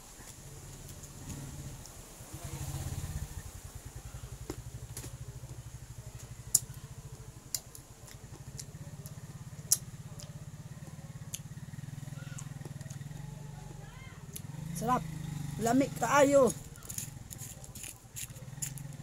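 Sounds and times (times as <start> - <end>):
low engine-like hum: 0.2 - 19.0.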